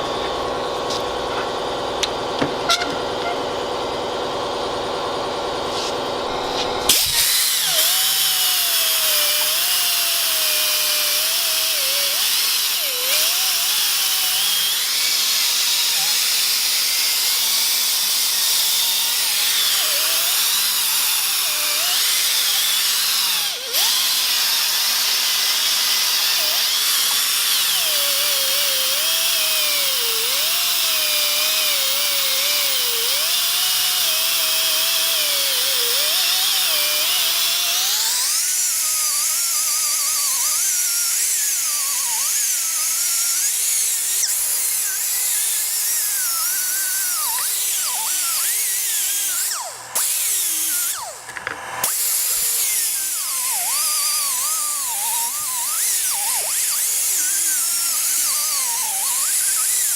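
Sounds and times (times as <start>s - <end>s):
die grinder whining: 0.0s - 59.9s.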